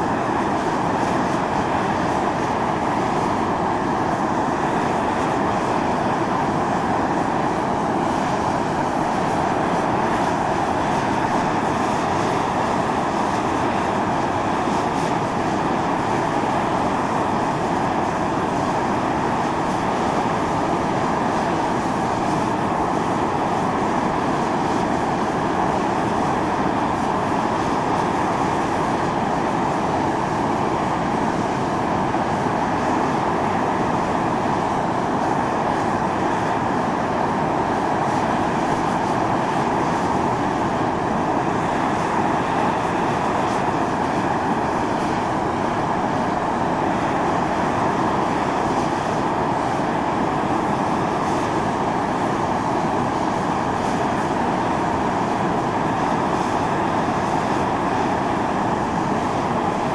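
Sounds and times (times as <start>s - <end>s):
steam venting hiss: 0.0s - 59.9s.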